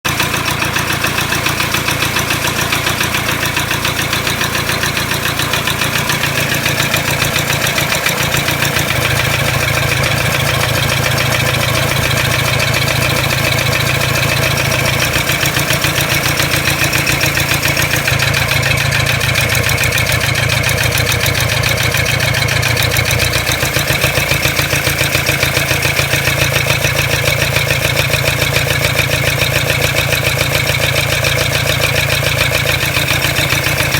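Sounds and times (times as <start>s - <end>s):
diesel engine idling: 0.0s - 33.9s
rhythmic rattling knock: 0.1s - 33.9s.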